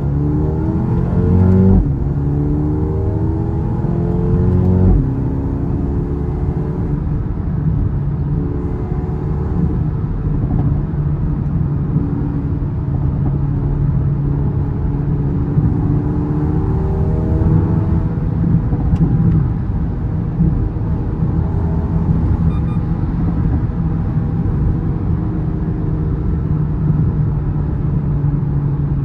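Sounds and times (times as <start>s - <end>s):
car engine accelerating: 0.0s - 28.2s.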